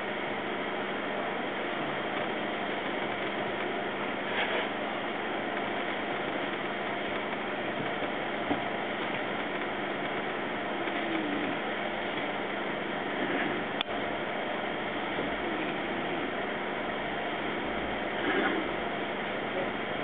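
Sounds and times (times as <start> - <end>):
train carriage hum and rumble: 0.0 - 20.0.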